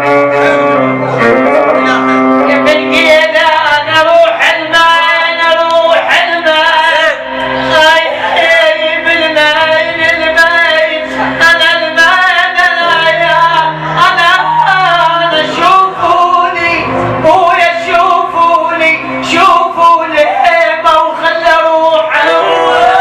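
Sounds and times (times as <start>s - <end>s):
amplified instrumental backing: 0.0s - 23.0s
man singing melismatic lines: 0.0s - 23.0s.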